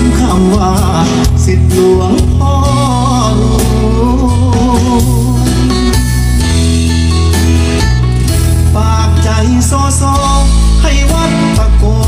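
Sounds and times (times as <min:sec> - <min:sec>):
song with heavy bass line: 0:00.0 - 0:12.0.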